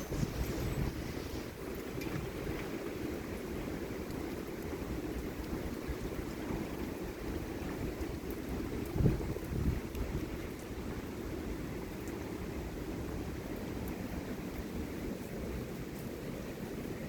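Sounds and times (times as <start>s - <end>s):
heavy rain: 0.0s - 17.0s
strong wind buffeting microphone: 0.0s - 17.0s.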